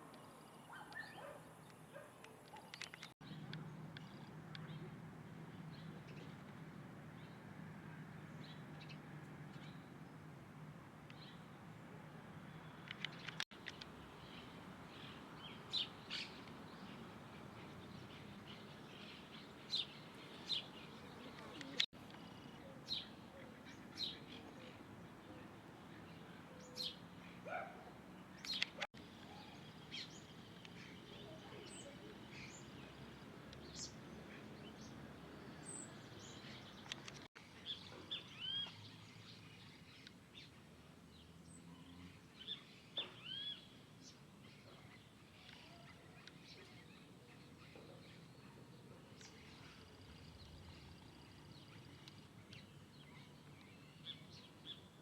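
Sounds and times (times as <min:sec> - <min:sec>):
small birds chirping: 0:00.0 - 0:10.3, 0:11.0 - 0:55.0.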